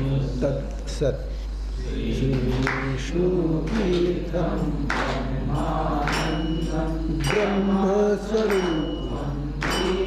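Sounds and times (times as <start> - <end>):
voices chanting a prayer: 0.0 - 10.0.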